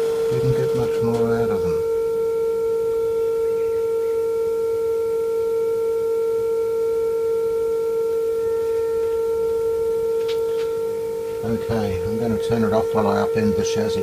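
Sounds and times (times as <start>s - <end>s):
radio test tone: 0.0s - 14.0s.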